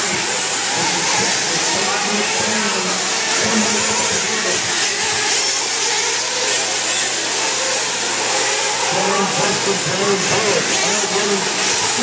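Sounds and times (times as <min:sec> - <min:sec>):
model buggy engines buzzing: 0:00.0 - 0:12.0.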